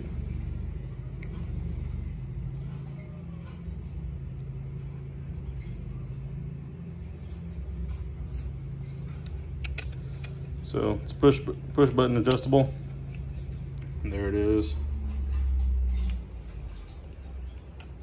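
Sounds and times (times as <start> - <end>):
machinery engine droning: 0.0 - 18.0.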